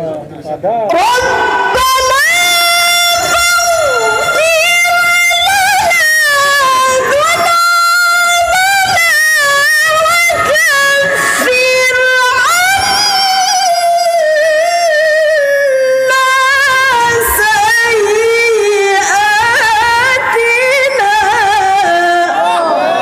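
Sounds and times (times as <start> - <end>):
woman reciting melodically: 0.9 - 23.0.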